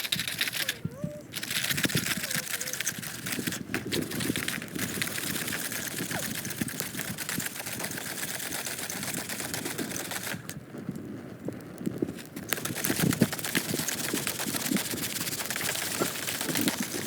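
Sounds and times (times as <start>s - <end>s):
popcorn kernels rattling in pan: 0.0s - 10.6s, 11.9s - 17.0s.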